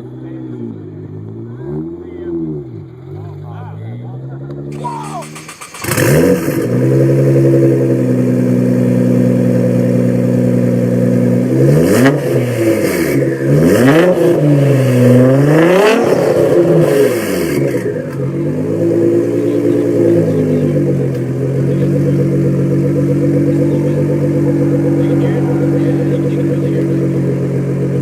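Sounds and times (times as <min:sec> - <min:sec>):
car engine revving: 0:00.0 - 0:28.0
exhaust crack: 0:00.0 - 0:28.0.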